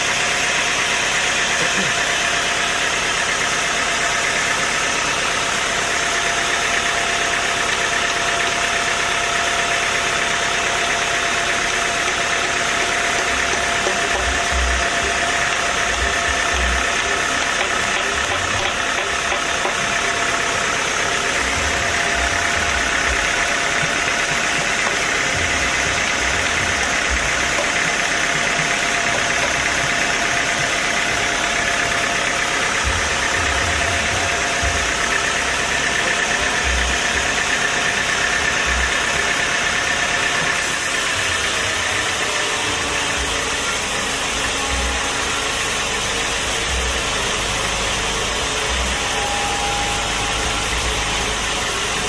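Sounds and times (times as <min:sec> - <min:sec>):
machinery running with high whine: 0:00.0 - 0:52.0.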